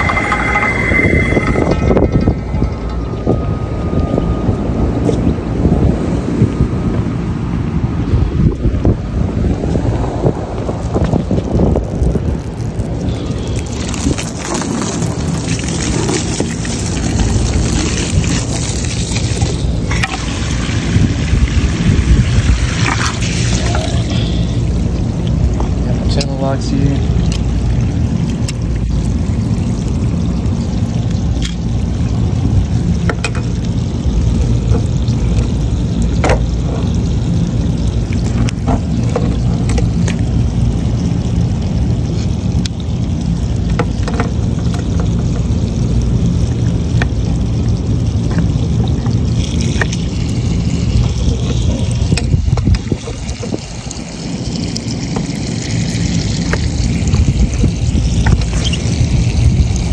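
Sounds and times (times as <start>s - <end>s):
running water pouring and trickling: 0.0s - 59.9s
steady low rumble: 0.0s - 59.9s.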